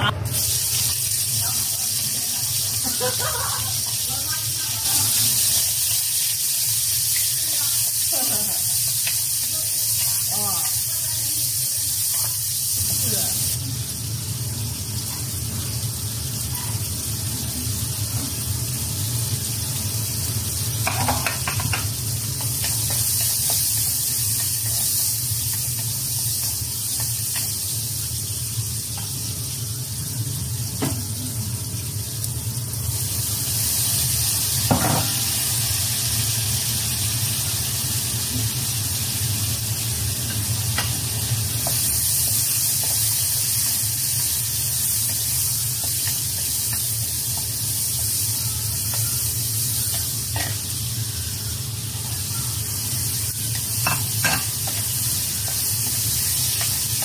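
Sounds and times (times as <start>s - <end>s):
food sizzling in a wok: 0.0s - 57.0s.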